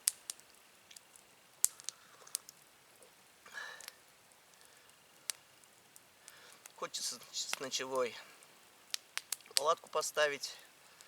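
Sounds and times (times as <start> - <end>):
campfire pops: 0.0 - 11.0.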